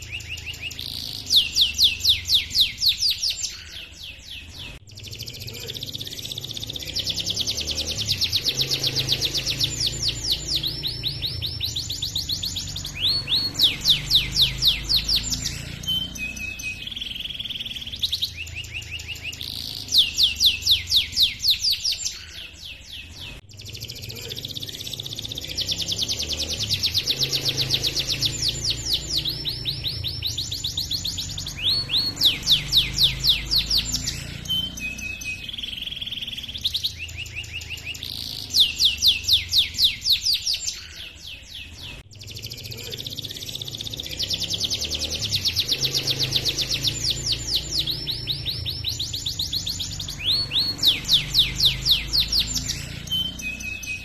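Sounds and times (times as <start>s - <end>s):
canary chirps: 0.0s - 54.0s
canary trilling: 0.0s - 54.0s.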